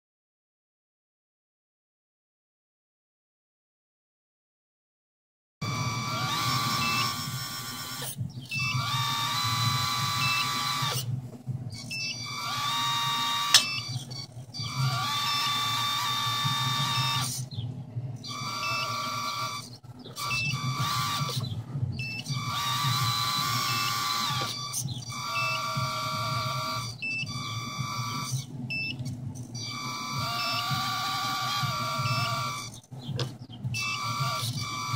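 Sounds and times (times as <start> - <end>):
small electric pump motor whining: 5.6 - 17.6, 18.2 - 34.9.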